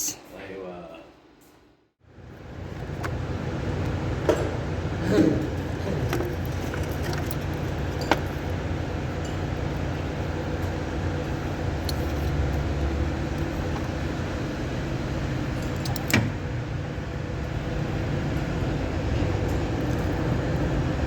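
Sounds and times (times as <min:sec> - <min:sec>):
diesel engine running: 0:02.1 - 0:21.0.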